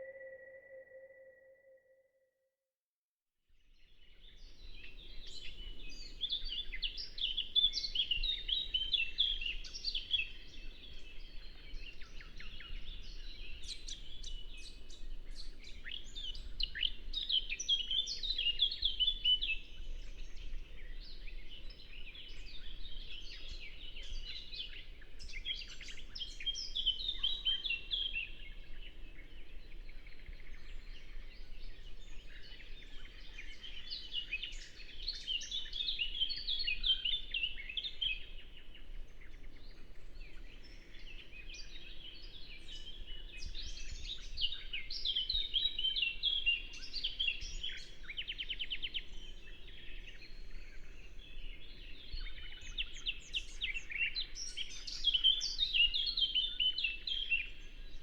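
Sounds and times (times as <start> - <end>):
songbirds singing and chirping: 4.2 - 58.0.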